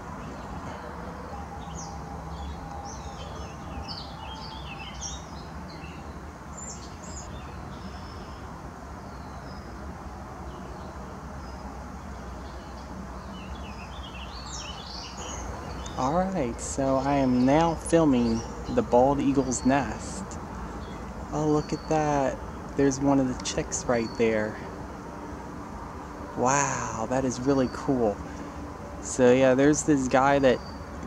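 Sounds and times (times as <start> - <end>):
wild birds chirping: 0.0 - 31.0.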